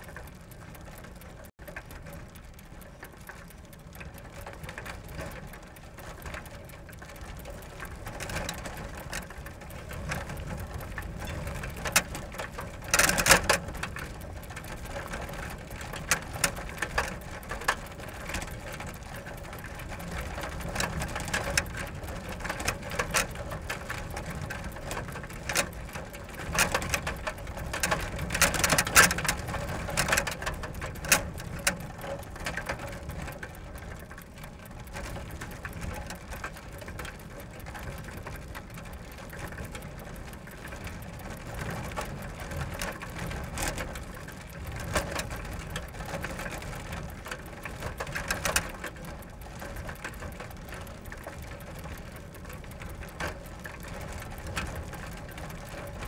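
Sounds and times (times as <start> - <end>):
bicycle chain rattling and clicking: 0.0 - 56.0
bicycle tyre rumble: 0.0 - 56.0.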